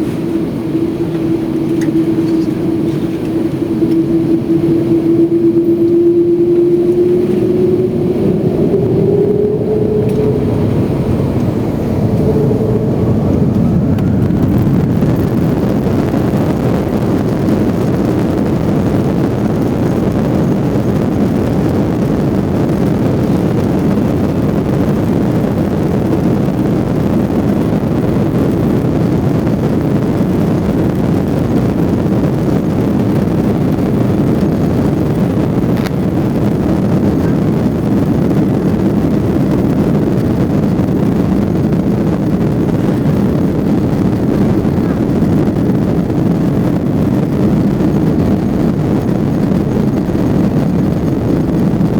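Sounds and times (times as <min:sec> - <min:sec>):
jet engines rumbling in cabin: 0:00.0 - 0:51.9
rushing air noise: 0:00.0 - 0:51.9.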